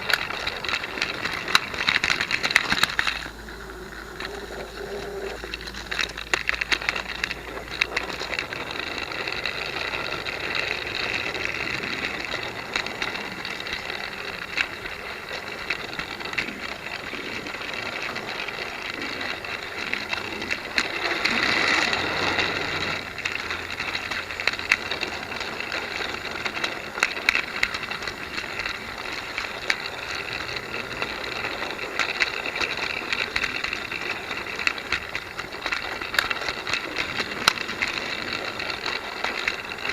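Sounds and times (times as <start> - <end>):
toy train clicks and rattles: 0.0 - 39.9
toy train motor whirring: 0.0 - 39.9.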